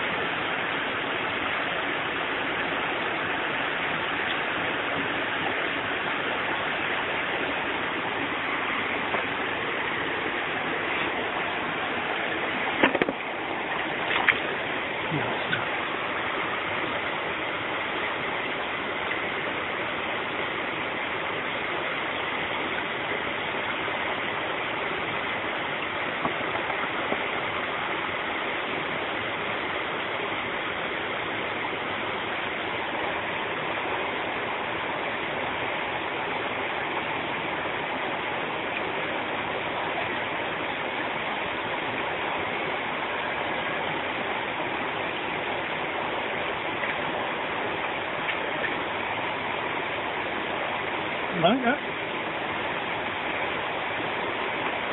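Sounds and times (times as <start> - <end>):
stream rushing over rocks: 0.0 - 54.9.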